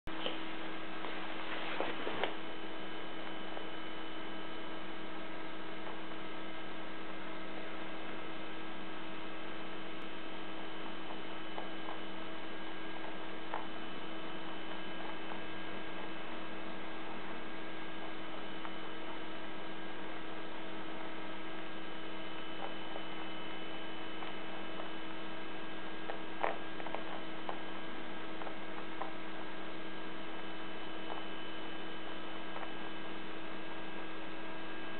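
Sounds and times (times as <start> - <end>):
electrical hum: 0.0 - 34.9.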